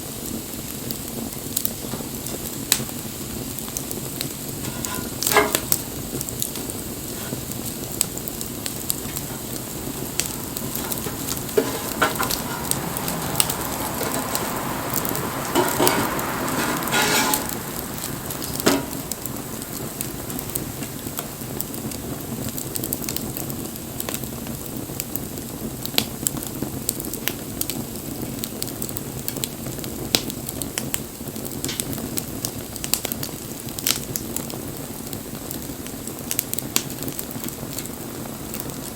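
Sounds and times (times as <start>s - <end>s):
rushing hiss of fire: 0.0s - 38.9s
wood fire crackling and hissing: 0.0s - 38.9s.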